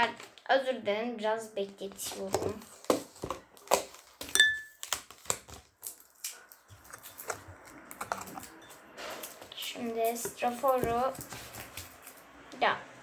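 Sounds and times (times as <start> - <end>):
plastic handling rustling: 1.6 - 12.2.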